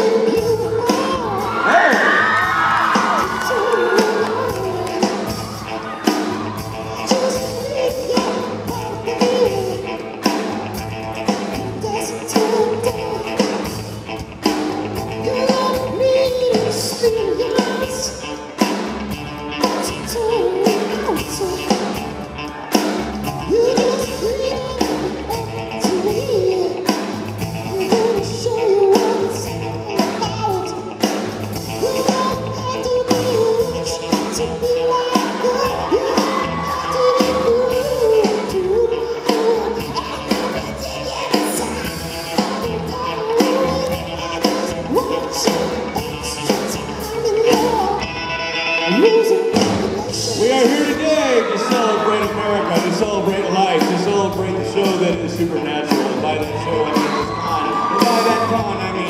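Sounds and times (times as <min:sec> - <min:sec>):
man singing: 0:00.0 - 0:13.9, 0:14.9 - 0:18.4, 0:19.6 - 0:22.0, 0:23.3 - 0:59.0
bass guitar: 0:00.0 - 0:59.0
drums: 0:00.0 - 0:59.0
electric guitar: 0:00.0 - 0:59.0.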